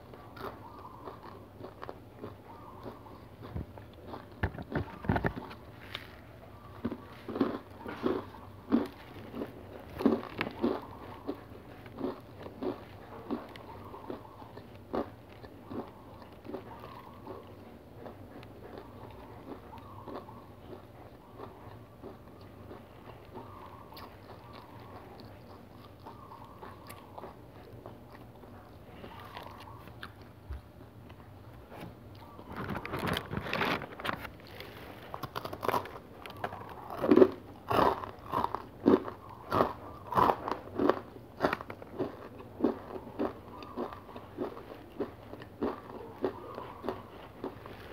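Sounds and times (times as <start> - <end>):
chewing crunchy cereal bar: 0.0 - 47.9.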